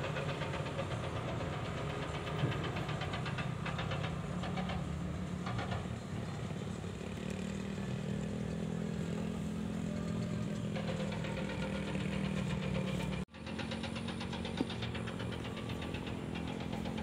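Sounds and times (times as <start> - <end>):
engine idling with clatter: 0.0 - 17.0.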